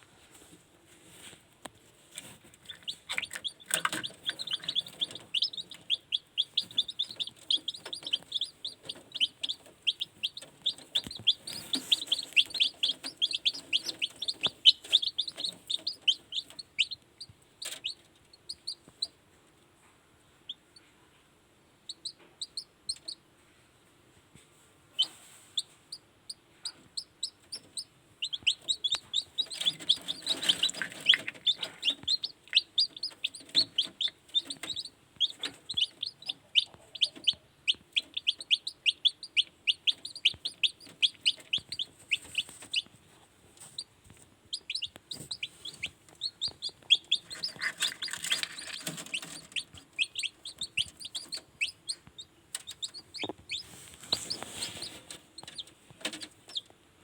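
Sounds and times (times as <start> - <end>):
chicks peeping: 1.1 - 19.2, 21.9 - 23.3, 24.9 - 56.8.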